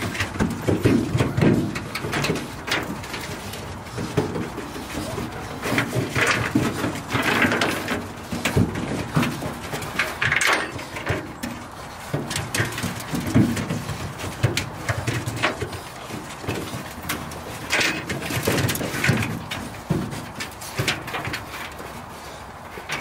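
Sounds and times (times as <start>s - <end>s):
claws scrabbling on metal: 0.0s - 23.0s.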